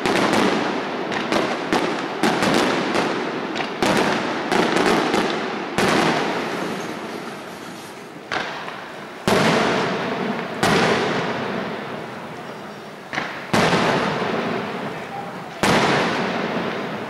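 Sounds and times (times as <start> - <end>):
firework booms with echo: 0.0 - 17.0.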